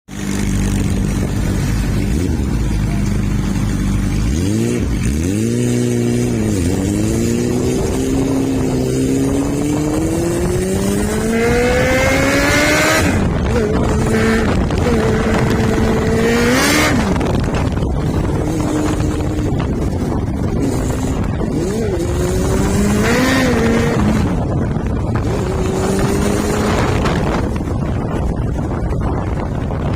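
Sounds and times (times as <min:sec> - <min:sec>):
motorcycle engine revving: 0:00.1 - 0:29.9.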